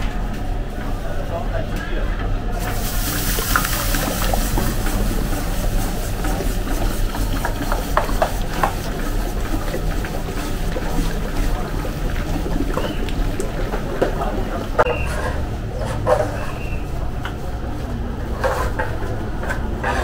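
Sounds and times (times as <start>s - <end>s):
stirring machine motor running: 2.2s - 20.0s.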